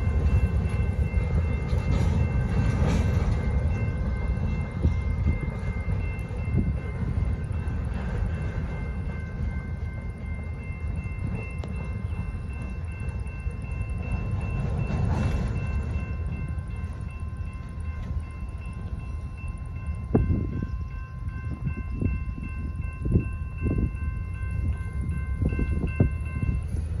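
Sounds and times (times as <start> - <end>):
crossing warning bell ringing: 0.0 - 27.0.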